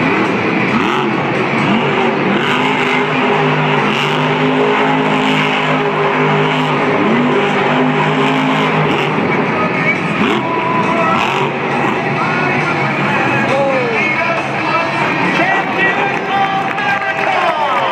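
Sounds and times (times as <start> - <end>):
arena crowd noise: 0.0 - 17.9
truck engine revving: 0.0 - 17.9.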